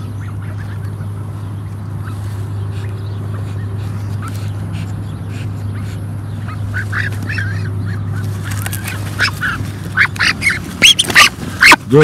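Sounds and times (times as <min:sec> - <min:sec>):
low hum: 0:00.0 - 0:11.7
waterfowl calling: 0:00.0 - 0:12.0.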